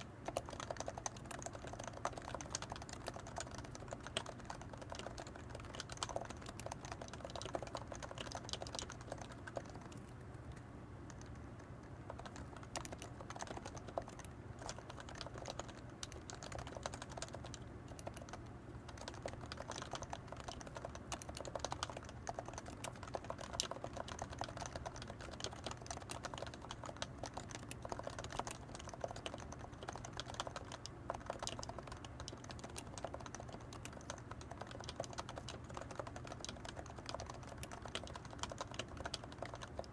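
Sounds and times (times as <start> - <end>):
typing on keyboard: 0.0 - 10.2, 11.1 - 39.9.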